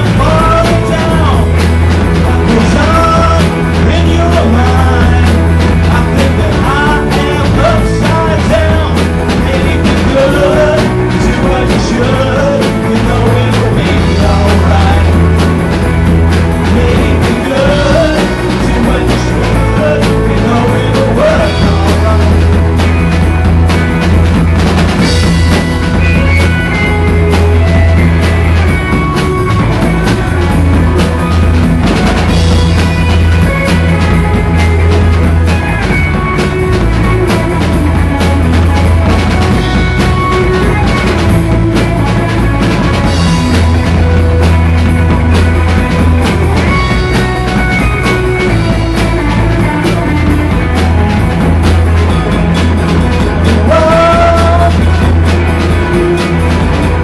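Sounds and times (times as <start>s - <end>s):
drum kit: 0.0s - 57.0s
electric bass: 0.0s - 57.0s
electric guitars: 0.0s - 57.0s.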